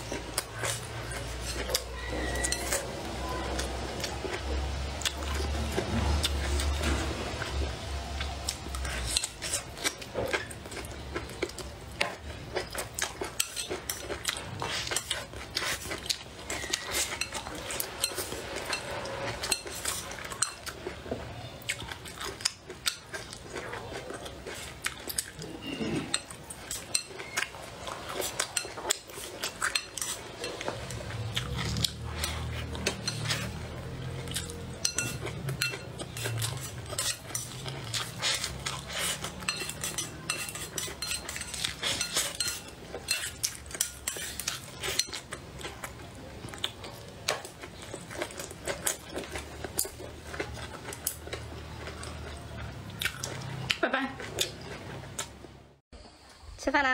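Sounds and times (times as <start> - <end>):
close-up chewing: 0.0 - 55.5.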